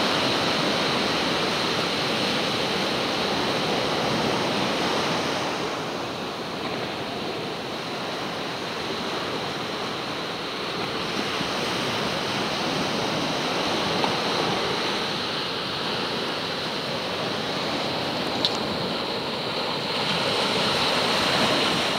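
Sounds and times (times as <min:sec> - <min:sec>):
small waves breaking on sand: 0:00.0 - 0:21.9.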